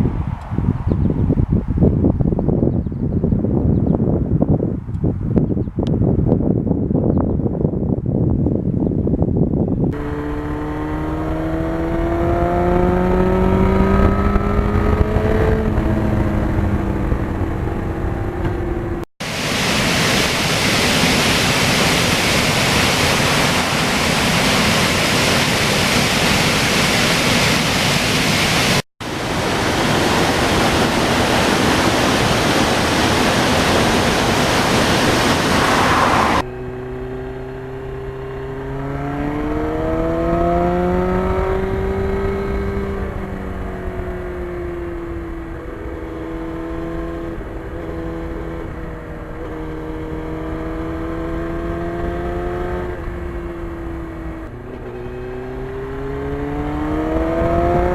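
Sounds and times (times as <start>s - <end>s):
wind rush: 0.0s - 57.9s
motorcycle engine revving up: 9.9s - 57.9s.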